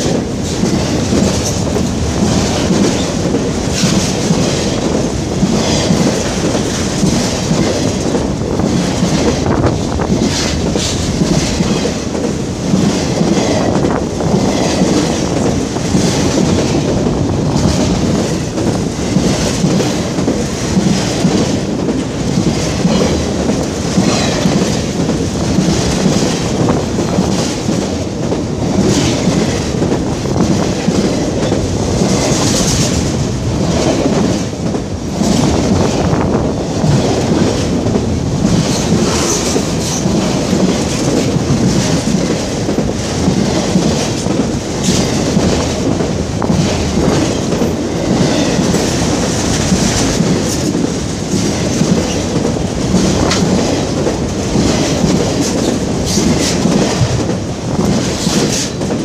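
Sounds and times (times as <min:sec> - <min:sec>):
clickety-clack over rail joints: 0:00.0 - 0:59.0
steel wheels rumbling on rail: 0:00.0 - 0:59.0.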